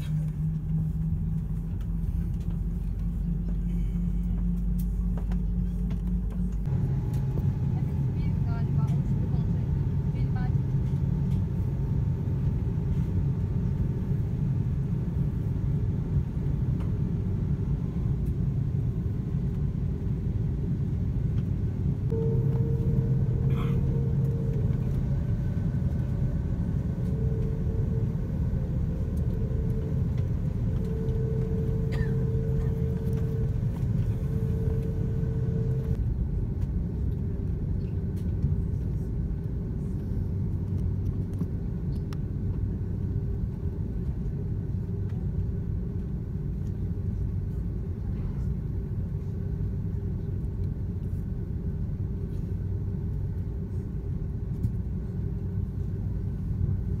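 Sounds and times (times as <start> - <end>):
engine whine: 0.0 - 57.0
jet engine rumble in cabin: 0.0 - 57.0.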